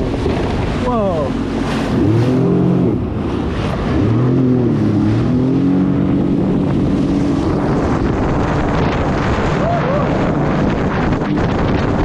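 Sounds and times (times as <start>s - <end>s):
rush of wind and water: 0.0s - 12.0s
watercraft engine running: 0.0s - 12.0s.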